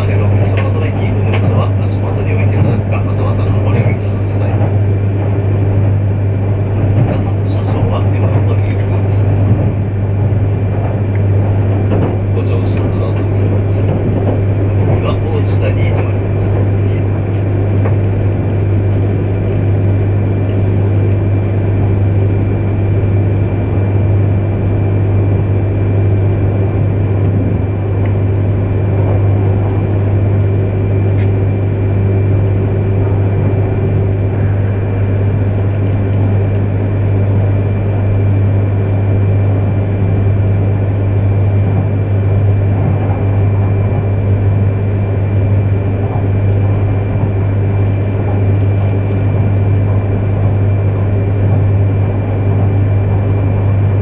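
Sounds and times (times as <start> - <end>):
thin steady whine: 0.0 - 54.0
train interior running hum: 0.0 - 54.0.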